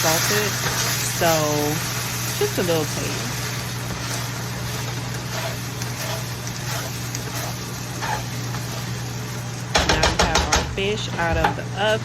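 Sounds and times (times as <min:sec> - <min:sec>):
faint kitchen noises: 0:00.0 - 0:12.0
kitchen appliance humming: 0:00.0 - 0:12.0.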